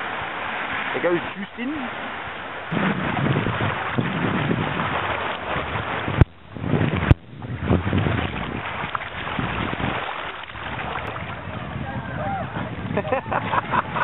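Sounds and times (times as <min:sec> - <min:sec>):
water splashing around a kayak: 0:00.0 - 0:14.0
wind on microphone: 0:02.0 - 0:14.0.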